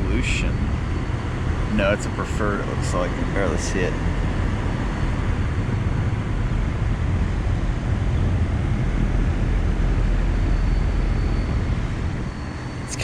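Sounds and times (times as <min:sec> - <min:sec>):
air conditioner unit running: 0:00.0 - 0:13.0
faint high whine: 0:00.0 - 0:13.0.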